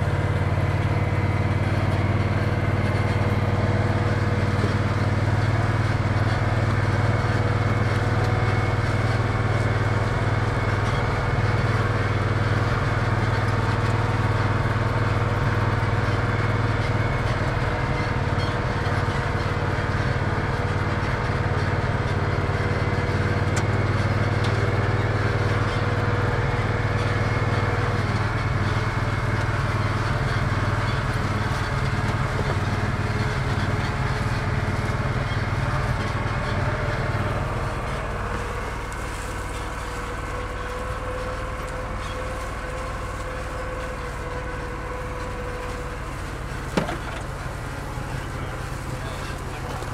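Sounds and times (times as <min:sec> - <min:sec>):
utility vehicle engine droning: 0:00.0 - 0:49.9.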